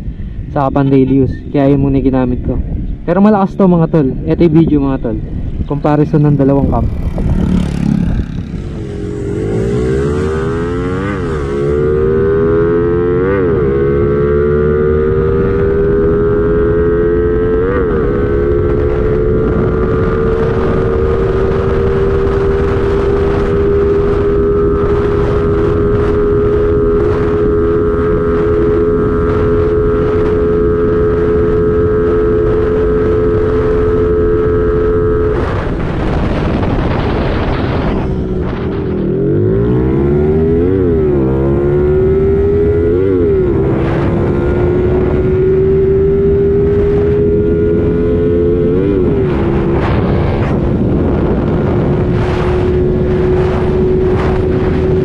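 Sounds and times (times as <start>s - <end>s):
motorcycle engine accelerating: 1.3s - 55.0s.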